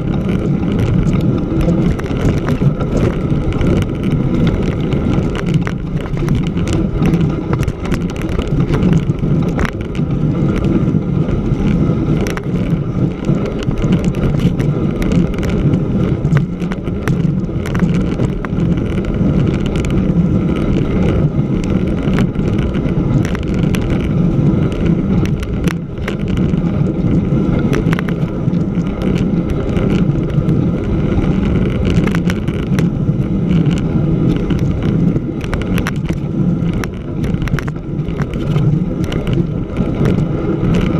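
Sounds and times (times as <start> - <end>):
bicycle tyre rolling over snow: 0.0 - 40.9.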